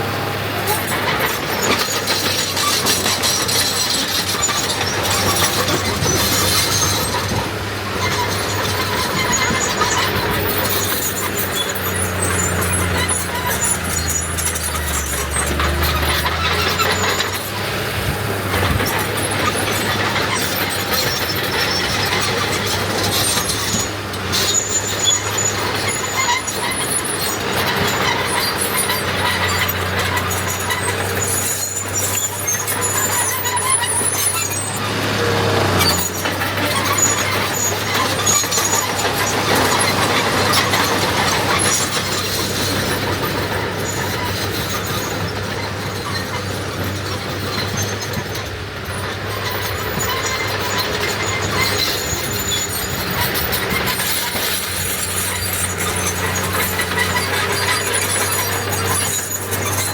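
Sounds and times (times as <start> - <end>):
diesel machinery engine: 0.0 - 59.9
high-pitched metallic squeals: 0.6 - 59.9.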